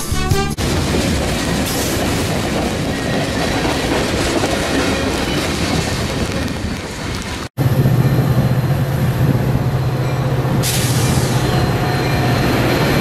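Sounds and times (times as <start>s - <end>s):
freight train wheels on rails: 0.6s - 13.0s.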